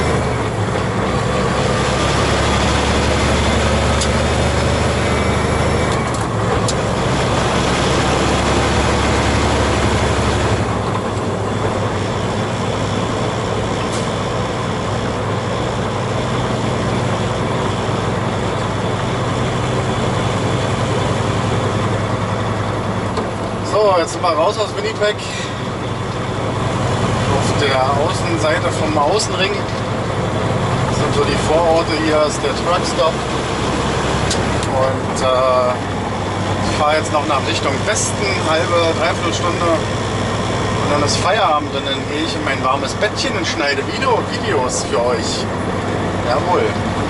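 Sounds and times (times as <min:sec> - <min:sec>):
diesel engine drone: 0:00.0 - 0:47.0
road noise: 0:00.0 - 0:47.0.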